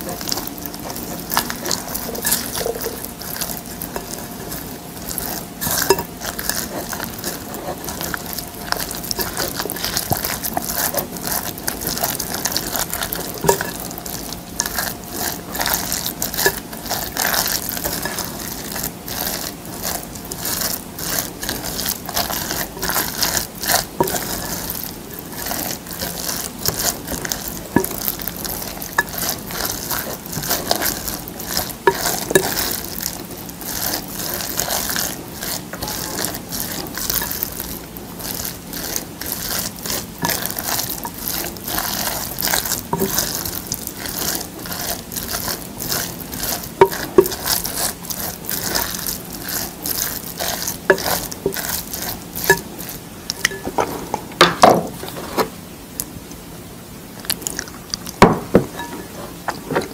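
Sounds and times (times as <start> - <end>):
spoon scraping glass bowl: 0.0 - 54.1, 58.6 - 59.9
sticky rice squelching: 0.0 - 56.5, 57.1 - 59.9.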